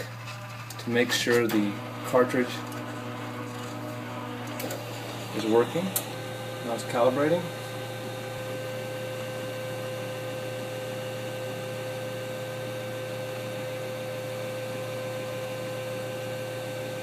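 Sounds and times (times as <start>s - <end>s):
laser printer humming: 0.0s - 17.0s.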